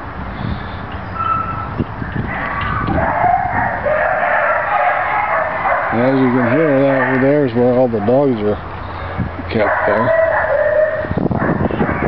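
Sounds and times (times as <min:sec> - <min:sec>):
many dogs barking: 0:02.2 - 0:12.0.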